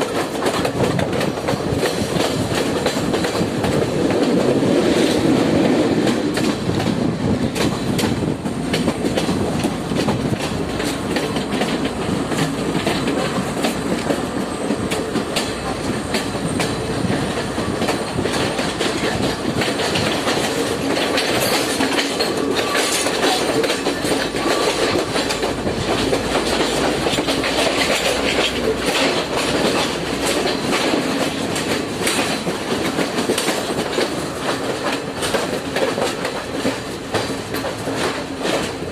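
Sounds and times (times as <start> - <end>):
train carriages rumbling: 0.0 - 38.9
wheels clicking over rails: 0.0 - 38.9.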